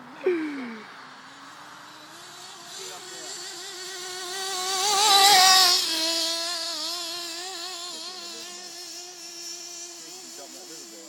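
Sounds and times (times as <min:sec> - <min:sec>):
model car engine whining: 0:00.0 - 0:11.0.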